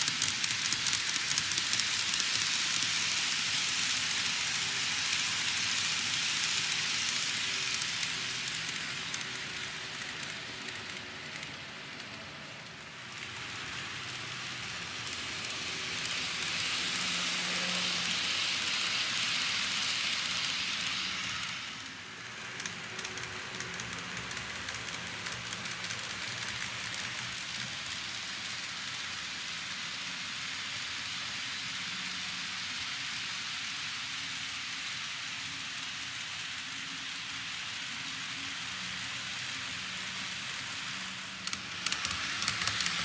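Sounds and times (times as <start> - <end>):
model train wheels rattling on track: 0.0 - 43.0.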